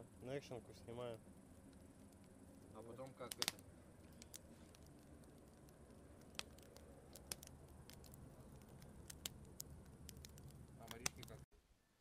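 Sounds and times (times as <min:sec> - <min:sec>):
campfire burning: 0:00.0 - 0:11.5
sharp pops from burning wood: 0:01.1 - 0:11.4.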